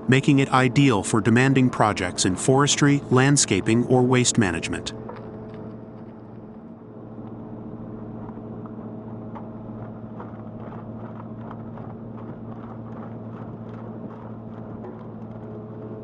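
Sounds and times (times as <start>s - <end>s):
wood chipper engine droning: 0.0s - 16.0s.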